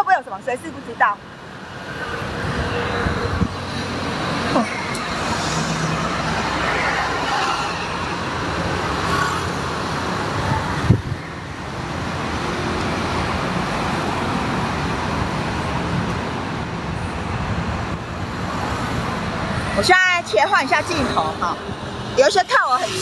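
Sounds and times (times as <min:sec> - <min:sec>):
passing vehicles: 0:00.0 - 0:23.0.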